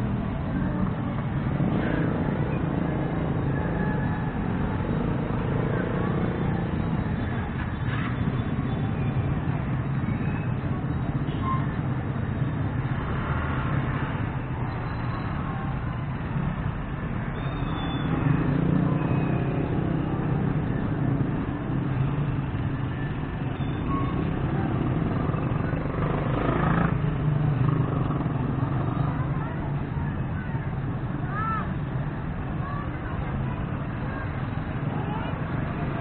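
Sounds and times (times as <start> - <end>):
traffic rumbling past: 0.0 - 36.0.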